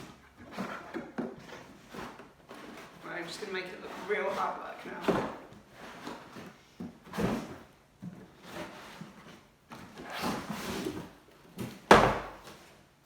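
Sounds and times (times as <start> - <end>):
cardboard box scraping and rustling: 0.0 - 12.7.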